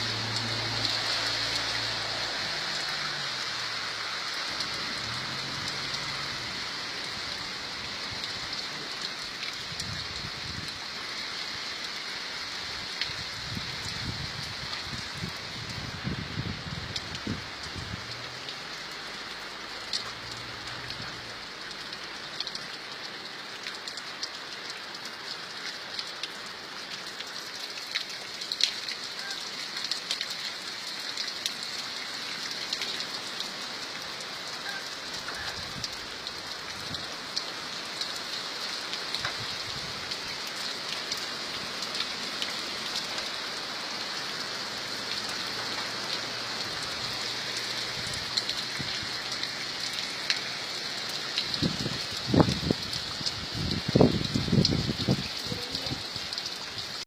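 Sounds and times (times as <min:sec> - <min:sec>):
raindrops tapping: 0:00.0 - 0:10.8, 0:14.1 - 0:57.0
steady rain falling: 0:00.0 - 0:57.0.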